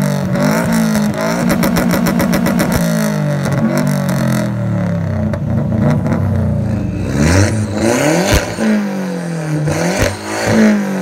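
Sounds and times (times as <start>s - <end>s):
car engine revving: 0.0s - 11.0s
exhaust cracking: 0.2s - 11.0s.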